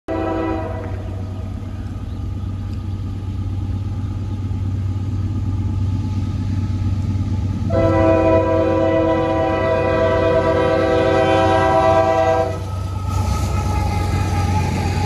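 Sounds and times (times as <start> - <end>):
freight train rumble: 0.1 - 15.0.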